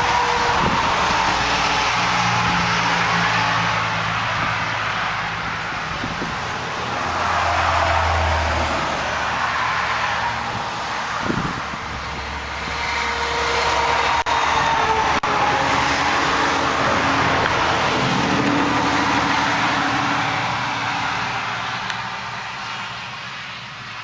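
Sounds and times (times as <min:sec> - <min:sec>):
wind noise on microphone: 0:00.0 - 0:22.8
highway traffic: 0:00.0 - 0:24.0
vehicles passing: 0:00.0 - 0:24.0.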